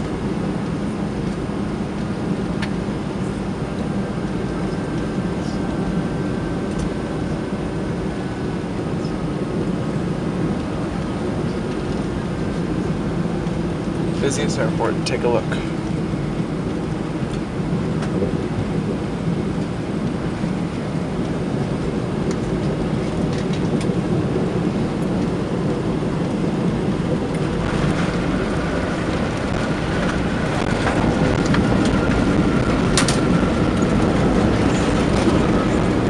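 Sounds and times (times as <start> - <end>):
airliner cabin engine rumble: 0.0 - 36.0
high engine whine: 0.0 - 36.0.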